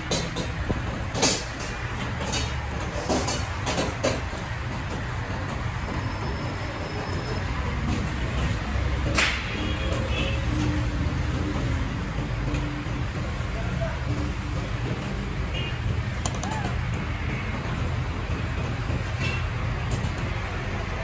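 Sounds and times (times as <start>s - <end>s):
sharp clicks and knocks: 0.0s - 21.0s.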